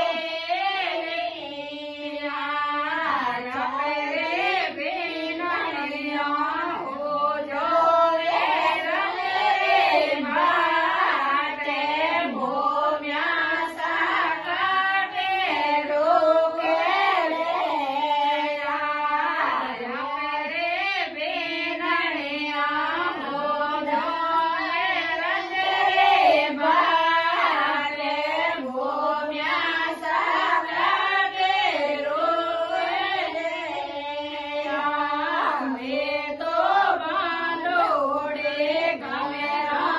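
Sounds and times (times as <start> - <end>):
woman singing devotional folk song: 0.0 - 39.9.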